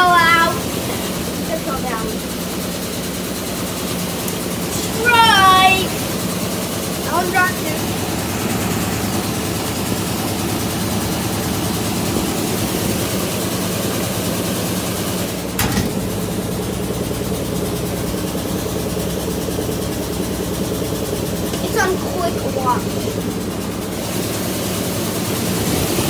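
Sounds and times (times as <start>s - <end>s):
washing machine spinning: 0.0s - 26.0s.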